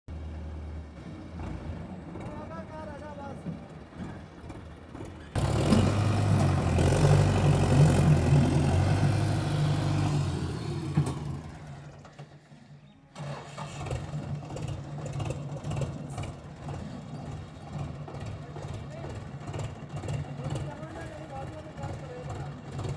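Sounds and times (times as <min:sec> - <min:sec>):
tractor diesel engine labouring: 0:00.1 - 0:22.9.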